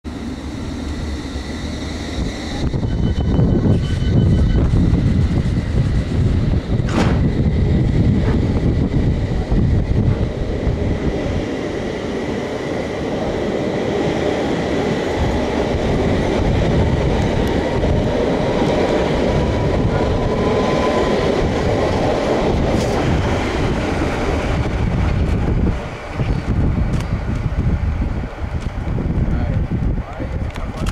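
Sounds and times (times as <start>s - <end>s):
thin train whine: 0.0s - 30.8s
train wheels rumbling on rails: 0.0s - 30.9s.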